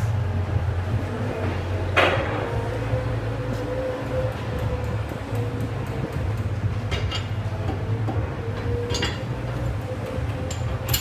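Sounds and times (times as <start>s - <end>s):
steady low background hum: 0.0s - 11.0s.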